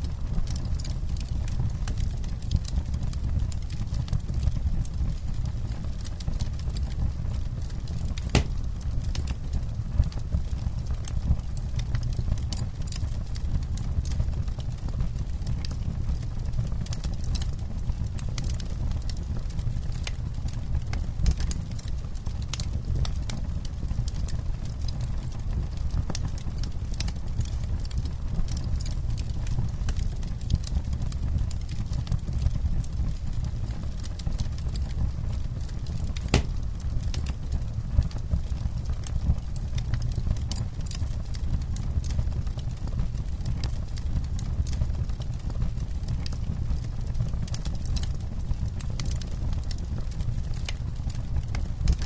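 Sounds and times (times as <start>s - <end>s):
campfire crackling and popping: 0.0s - 52.0s
low rumble of burning wood: 0.0s - 52.0s.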